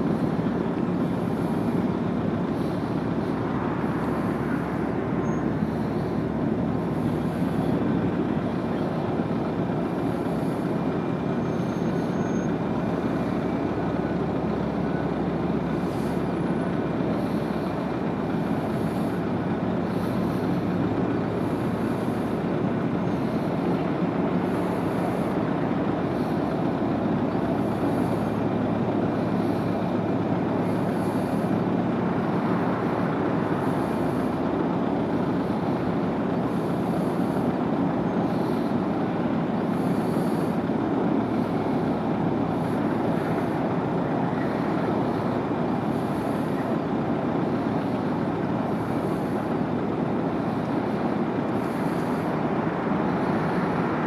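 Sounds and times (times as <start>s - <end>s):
ship diesel engines rumbling: 0.0s - 54.0s.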